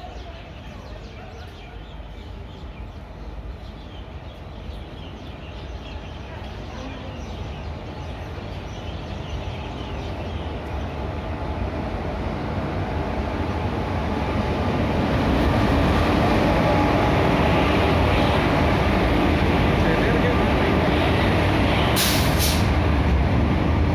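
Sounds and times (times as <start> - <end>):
train rumbling on track: 0.0 - 23.9.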